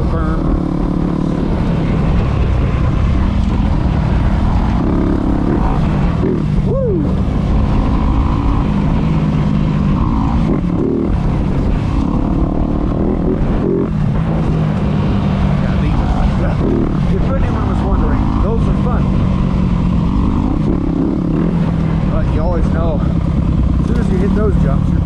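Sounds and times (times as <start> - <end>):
dirt bike engine revving: 0.0 - 25.0
wind rumble on microphone: 0.0 - 25.0.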